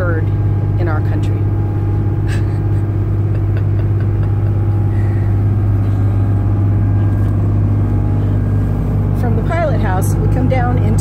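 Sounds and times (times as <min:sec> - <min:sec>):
boat diesel engine droning: 0:00.0 - 0:11.0.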